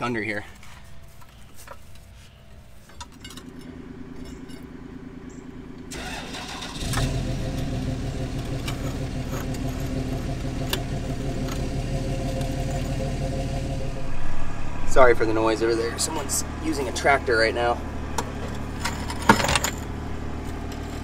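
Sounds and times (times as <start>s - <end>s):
tractor engine running: 2.8s - 21.0s.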